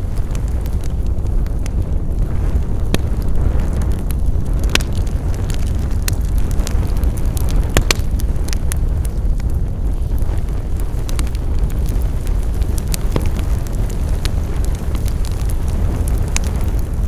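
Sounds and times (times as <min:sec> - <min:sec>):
wood fire crackling: 0:00.0 - 0:17.0
sharp pops and snaps: 0:00.3 - 0:16.9.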